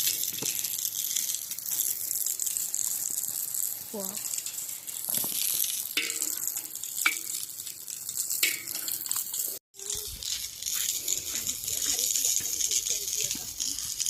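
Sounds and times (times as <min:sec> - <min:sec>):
dough sizzling in hot oil: 0:00.0 - 0:14.0.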